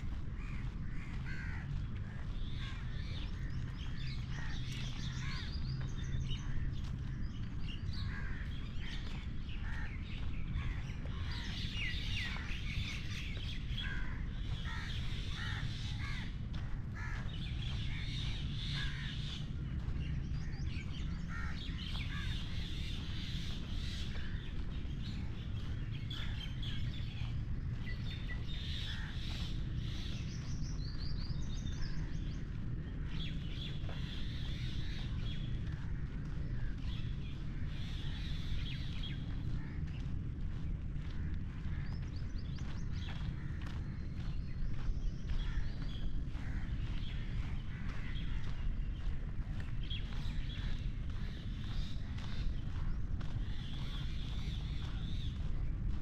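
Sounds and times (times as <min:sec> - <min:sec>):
birds chirping and calling: 0:00.0 - 0:56.0
low rumble: 0:00.0 - 0:56.0.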